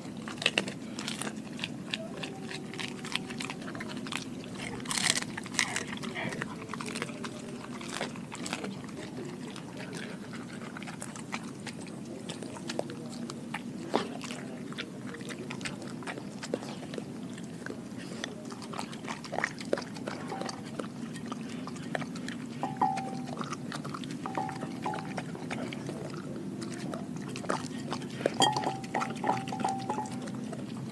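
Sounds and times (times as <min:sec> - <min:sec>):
dog chewing food: 0:00.0 - 0:30.9
teeth clicking and snapping: 0:00.0 - 0:30.9.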